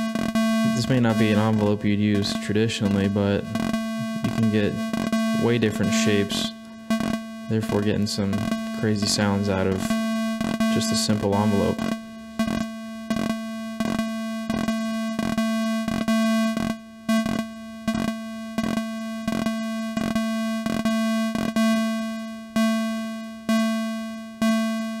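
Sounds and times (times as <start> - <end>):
synthesizer repeating low note: 0.0 - 25.0.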